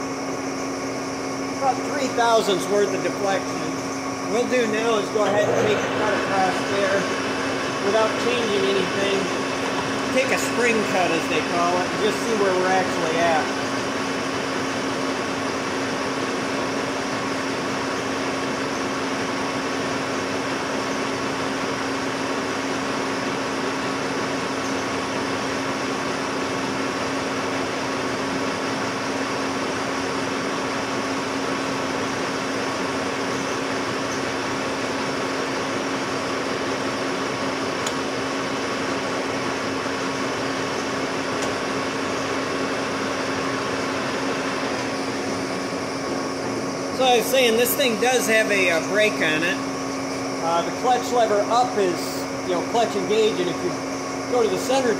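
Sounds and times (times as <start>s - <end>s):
metal lathe humming: 0.0s - 54.9s.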